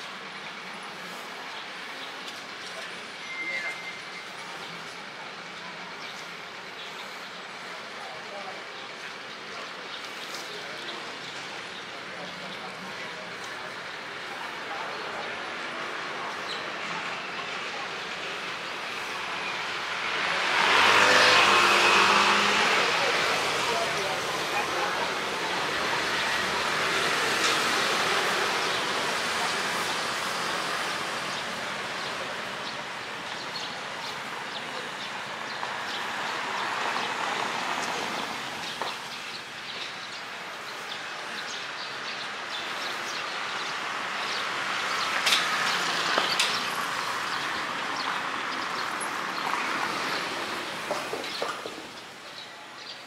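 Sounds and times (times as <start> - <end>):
traffic passing: 0.0 - 53.0.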